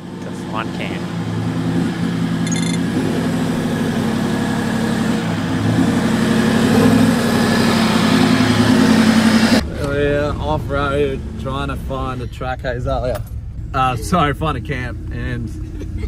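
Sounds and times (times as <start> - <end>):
diesel engine at low revs: 0.0 - 16.0.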